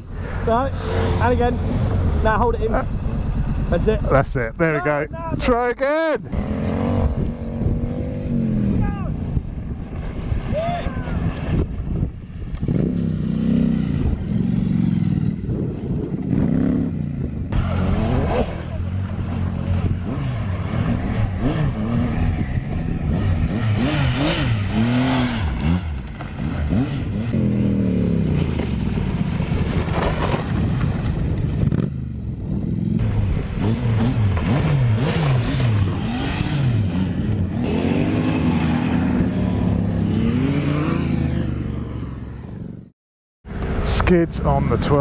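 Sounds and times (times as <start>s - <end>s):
motorcycle engine revving: 0.5s - 5.0s, 6.3s - 42.9s.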